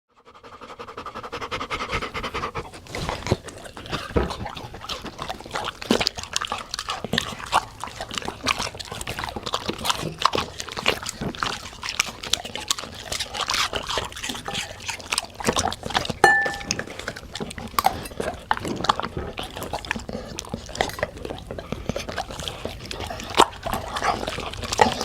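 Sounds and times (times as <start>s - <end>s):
dogs lapping water: 0.2s - 25.0s.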